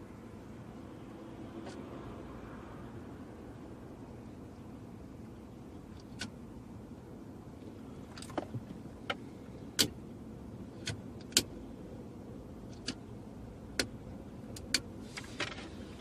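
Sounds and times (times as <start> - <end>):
steady low background hum: 0.0 - 16.0.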